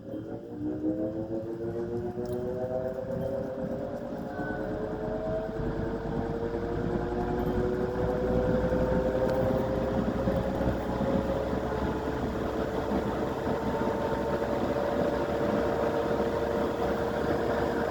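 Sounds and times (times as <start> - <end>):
box fan spinning up: 0.6 - 17.9.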